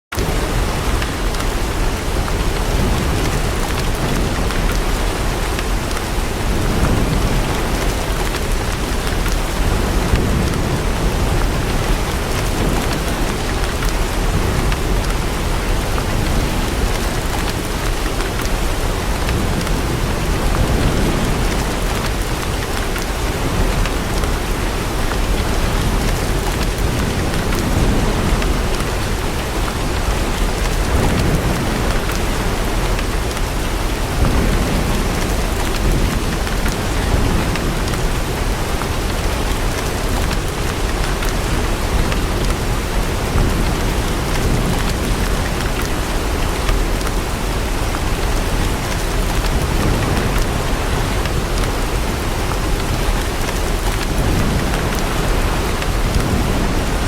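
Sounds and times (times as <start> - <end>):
heavy rain pattering: 0.1 - 57.0
distant thunder rumbling: 0.2 - 57.0.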